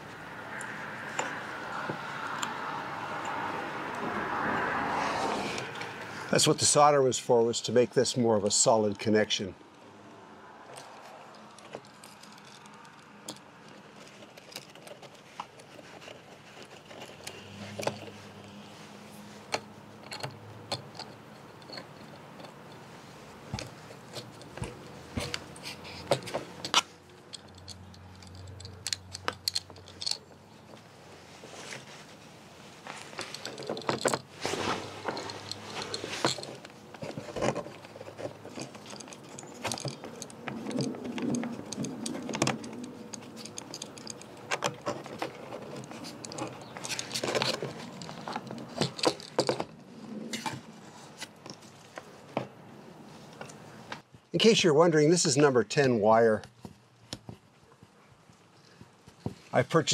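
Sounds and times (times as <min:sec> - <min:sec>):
hands handling small parts: 0:00.0 - 0:04.8, 0:10.7 - 0:54.2.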